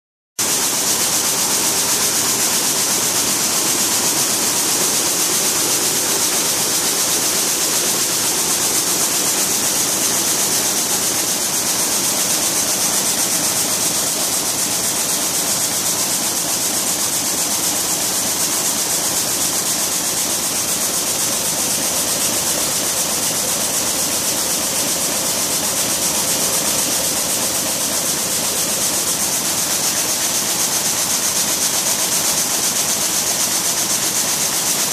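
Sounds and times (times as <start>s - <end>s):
weaving loom running: 0.4s - 34.9s.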